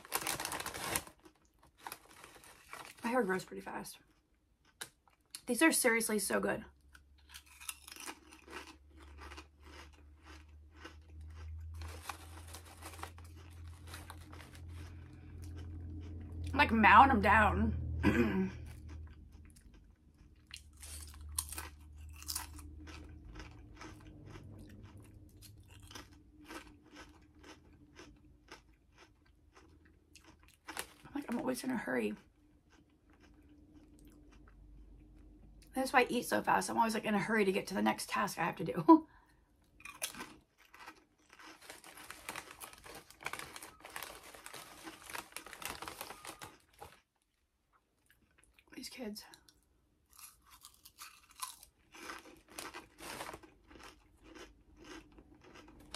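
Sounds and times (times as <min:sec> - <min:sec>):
person crunching potato chips: 0:00.0 - 0:05.4, 0:06.8 - 0:16.5, 0:17.8 - 0:31.6, 0:32.3 - 0:35.2, 0:39.5 - 0:47.4, 0:49.5 - 0:55.9.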